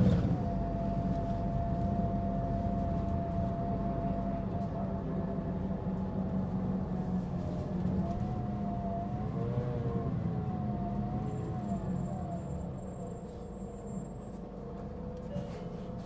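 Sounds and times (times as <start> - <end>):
bus diesel engine humming: 0.0 - 16.0.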